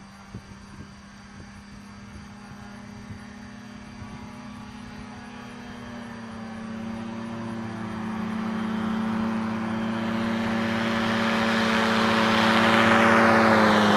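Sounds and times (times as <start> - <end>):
aircraft engine and propeller droning: 0.0 - 13.9.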